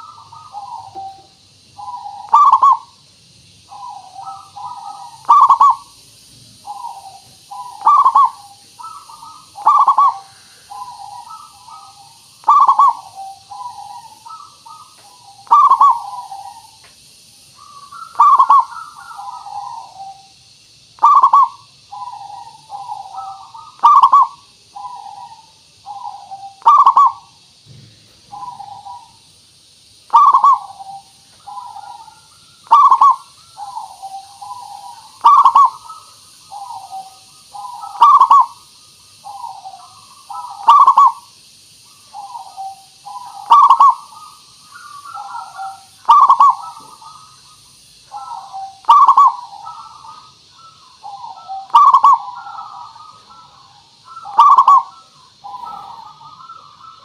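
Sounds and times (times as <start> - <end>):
dove cooing: 0.0 - 3.0, 3.6 - 16.8, 17.6 - 29.2, 30.1 - 41.3, 41.9 - 57.0
faint high hiss: 0.0 - 57.0.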